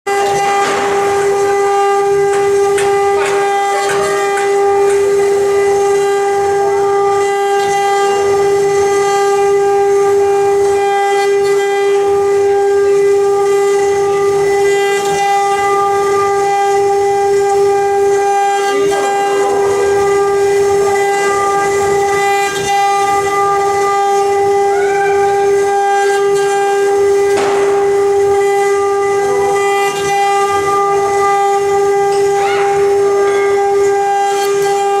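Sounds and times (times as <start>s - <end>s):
cutter grinding wood: 0.1s - 35.0s
router spindle whine: 0.1s - 35.0s.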